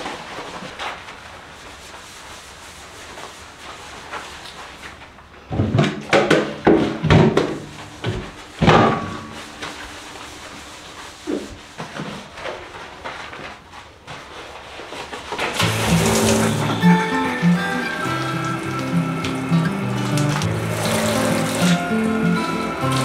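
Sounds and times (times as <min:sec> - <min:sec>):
sponge scrubbing bathtub: 0:00.0 - 0:23.0.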